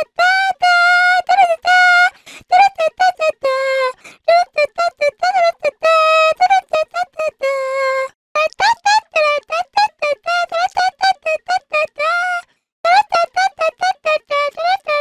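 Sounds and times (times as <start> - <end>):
cartoonish girl's voice singing: 0.0 - 15.0.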